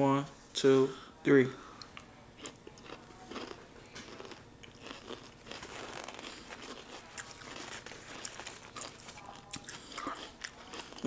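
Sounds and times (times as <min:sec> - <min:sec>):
crunchy pickle chewing: 0:01.9 - 0:11.0.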